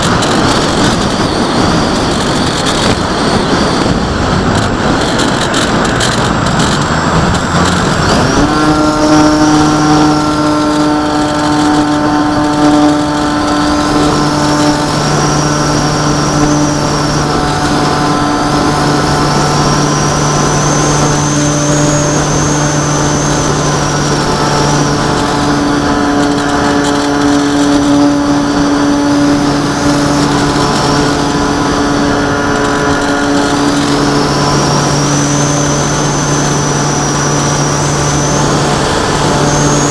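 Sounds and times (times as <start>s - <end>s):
light aircraft engine whine: 0.0s - 39.9s
wind noise: 0.0s - 39.9s.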